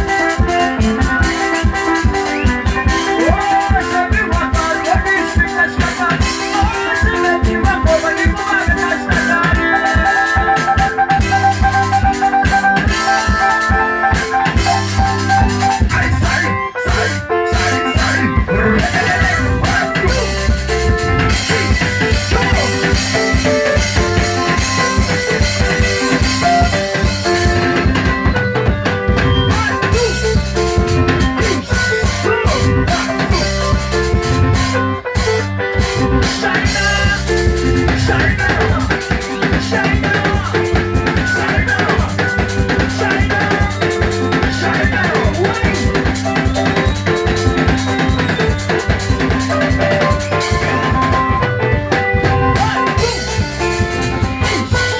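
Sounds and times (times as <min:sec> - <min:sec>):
drum kit with steady beat: 0:00.0 - 0:54.9
held keyboard notes: 0:00.0 - 0:54.9.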